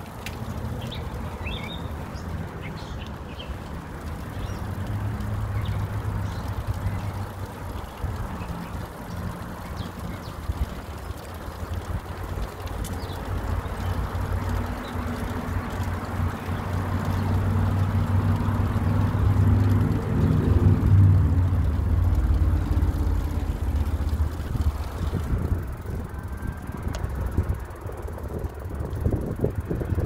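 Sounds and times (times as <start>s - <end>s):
motor vehicle engine hum: 0.0s - 30.0s
wind rumbling on microphone: 0.0s - 30.0s.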